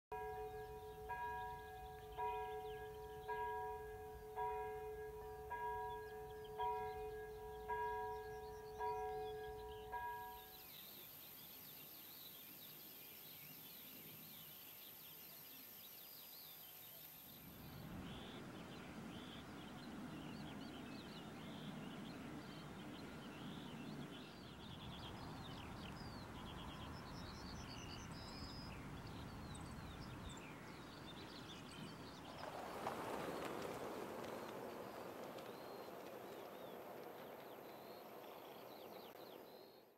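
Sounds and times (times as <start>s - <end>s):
outdoor background hiss: 0.2s - 39.8s
songbirds chirping and trilling: 0.2s - 39.9s.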